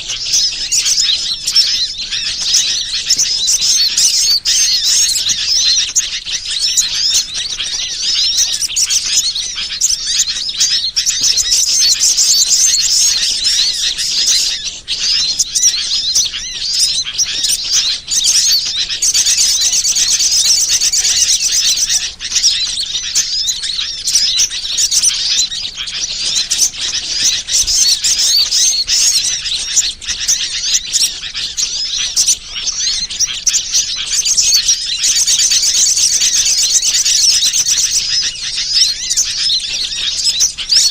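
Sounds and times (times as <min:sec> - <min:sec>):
rapid bird trills: 0:00.0 - 0:40.9
small birds chirping and twittering: 0:00.0 - 0:40.9.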